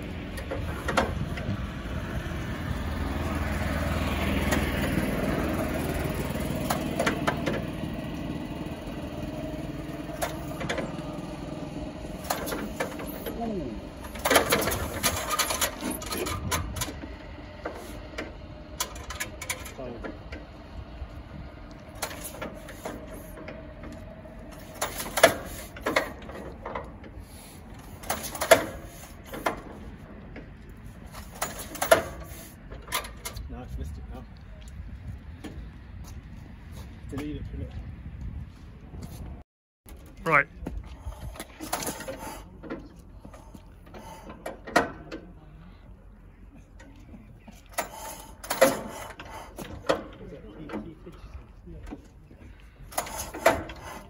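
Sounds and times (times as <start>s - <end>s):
engine cranked by hand clattering: 0.0s - 35.8s, 39.9s - 54.0s.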